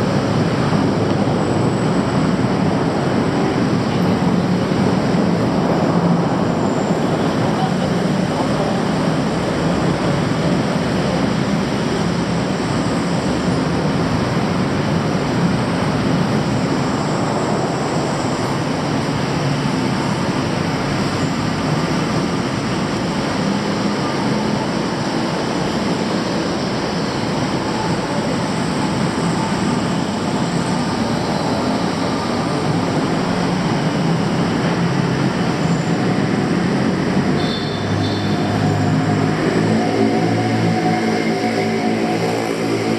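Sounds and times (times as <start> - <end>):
city traffic rumble: 0.0 - 42.9.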